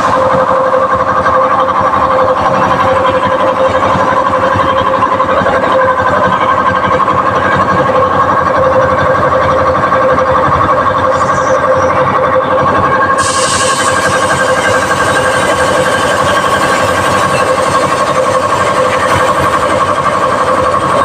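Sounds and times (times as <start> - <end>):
tire-changer machine humming: 0.0 - 21.0.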